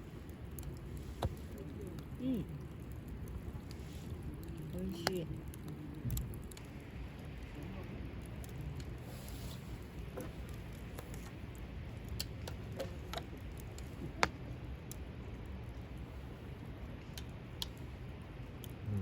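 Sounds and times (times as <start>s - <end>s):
low steady background rumble: 0.0s - 19.0s
light clicks and ticks: 0.2s - 9.0s, 10.0s - 16.1s, 17.0s - 18.8s.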